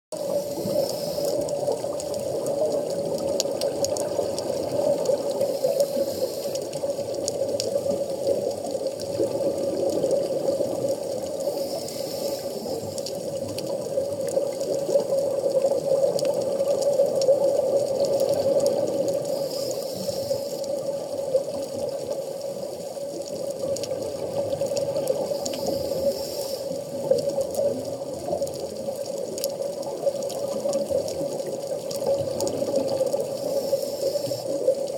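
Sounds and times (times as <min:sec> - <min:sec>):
underwater water noise: 0:00.1 - 0:34.9
faint clicks: 0:00.2 - 0:34.9
regulator bubbles hissing: 0:00.2 - 0:34.9.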